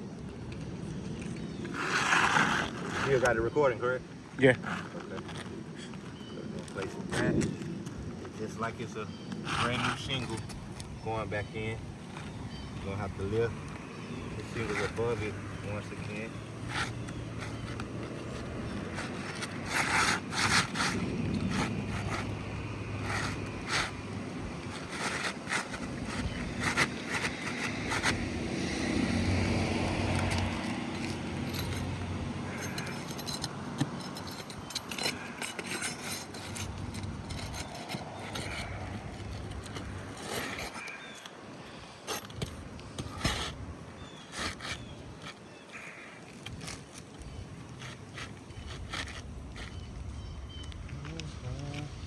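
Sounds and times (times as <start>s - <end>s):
roof shingles scraping and clicking: 0.5s - 52.0s.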